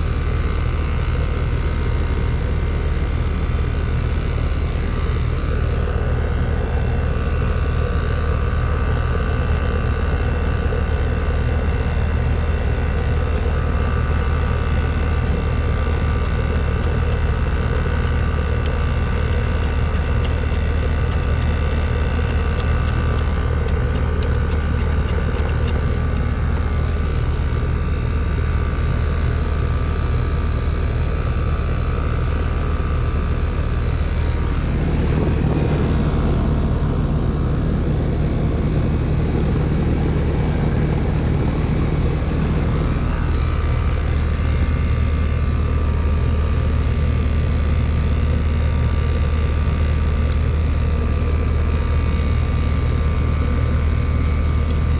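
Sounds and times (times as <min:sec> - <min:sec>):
air conditioner fan running: 0:00.0 - 0:54.9.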